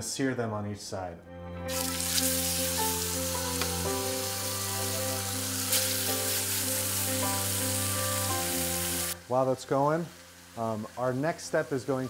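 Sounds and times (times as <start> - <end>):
background music with sustained chords: 0.0 - 12.0
meat sizzling in oil: 1.7 - 12.0.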